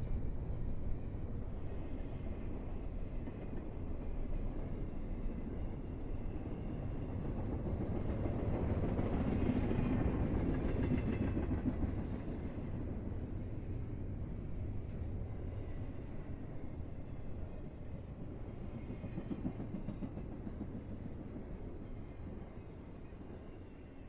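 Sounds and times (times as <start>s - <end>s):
train rumbling along tracks: 0.0s - 24.0s.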